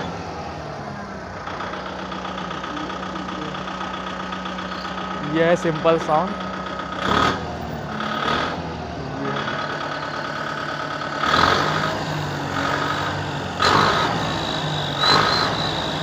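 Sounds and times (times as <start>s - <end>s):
tractor diesel engine revving: 0.0s - 16.0s.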